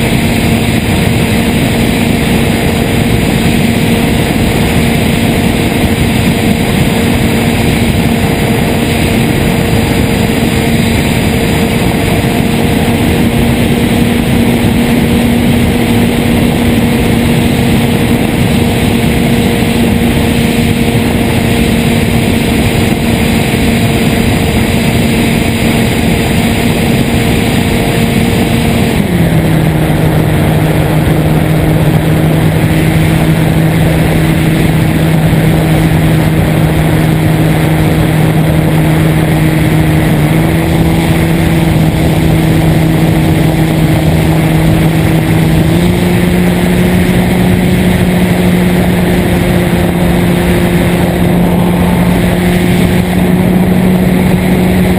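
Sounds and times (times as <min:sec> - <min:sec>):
model airplane motor droning: 0:00.0 - 0:54.9
wind rushing on microphone: 0:00.0 - 0:54.9.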